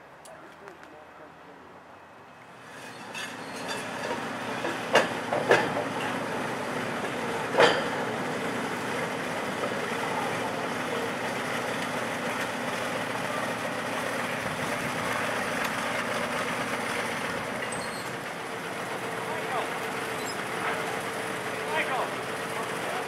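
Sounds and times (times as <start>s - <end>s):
railcar engine idling: 2.5s - 23.0s.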